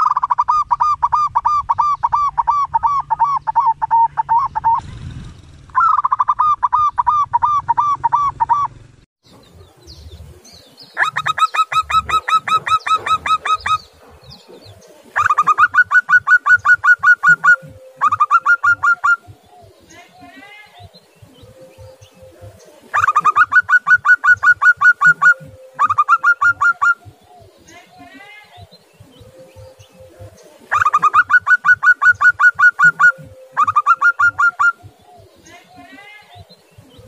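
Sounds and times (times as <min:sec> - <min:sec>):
dove staccato cooing: 0:00.0 - 0:04.8, 0:05.7 - 0:37.0.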